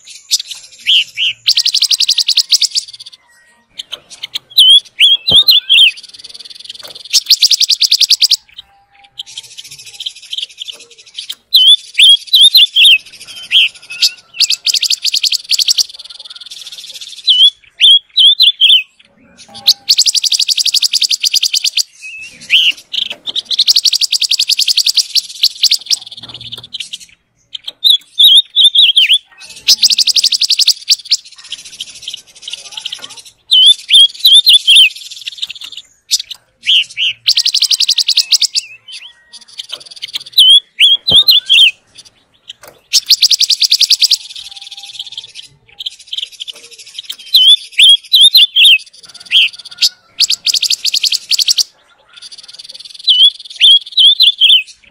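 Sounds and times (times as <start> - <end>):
bird singing whistles and trills: 0.0 - 54.9.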